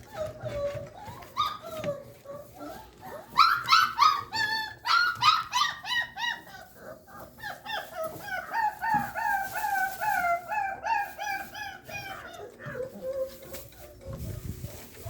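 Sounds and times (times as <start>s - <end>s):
puppy whining: 0.0s - 15.0s.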